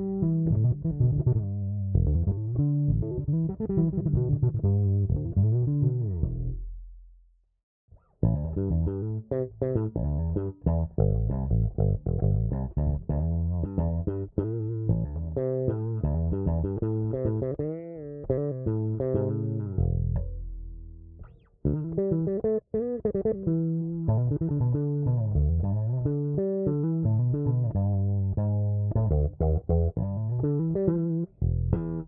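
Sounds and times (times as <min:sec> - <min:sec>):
electric bass plucked notes: 0:00.0 - 0:07.3, 0:08.0 - 0:32.0.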